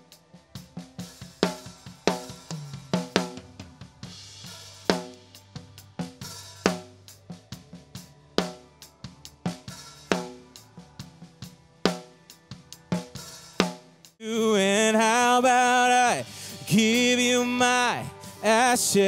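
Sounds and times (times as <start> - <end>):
drum kit groove: 0.0 - 14.2, 15.3 - 19.0.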